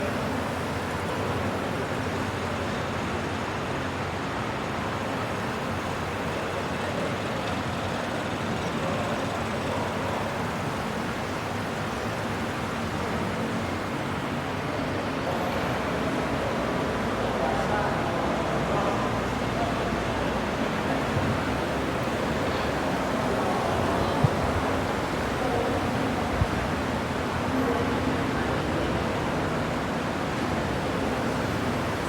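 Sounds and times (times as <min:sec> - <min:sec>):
road traffic rushing: 0:00.0 - 0:32.0.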